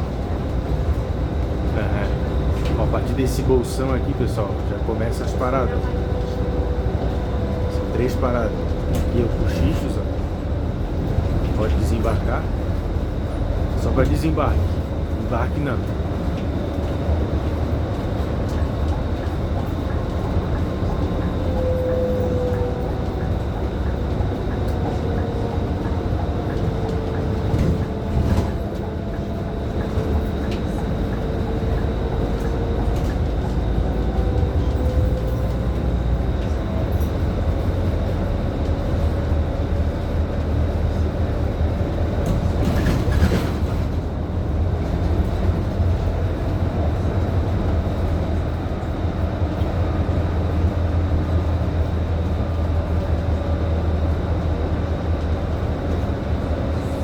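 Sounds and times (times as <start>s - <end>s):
bus diesel engine rumbling: 0.0s - 57.0s.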